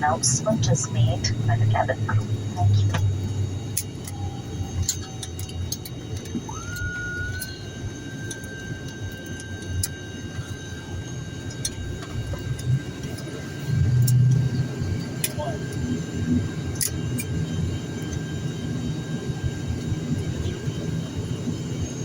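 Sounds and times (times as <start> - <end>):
airliner cabin rumble: 0.0 - 21.9
steady whine: 0.0 - 22.0.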